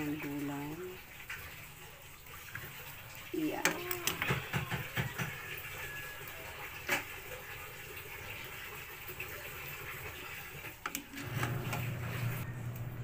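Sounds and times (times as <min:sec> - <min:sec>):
pot of food cooking hiss: 0:00.0 - 0:13.0.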